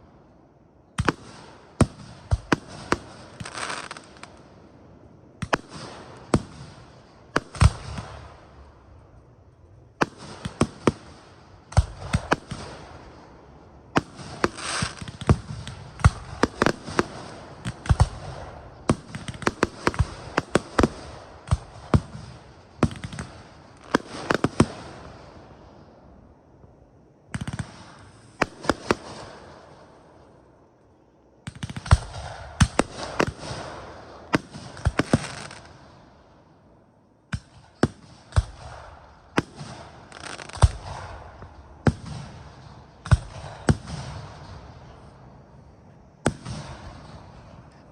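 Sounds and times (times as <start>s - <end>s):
fireworks bangs with crackle: 1.0s - 4.7s, 5.3s - 9.2s, 9.9s - 26.0s, 27.3s - 30.1s, 31.4s - 36.4s, 37.3s - 45.6s, 46.2s - 47.9s.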